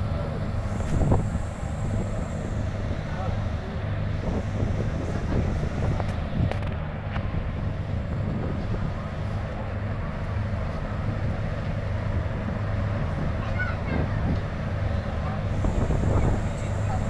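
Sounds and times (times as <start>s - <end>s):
boat diesel engines droning: 0.0s - 17.0s.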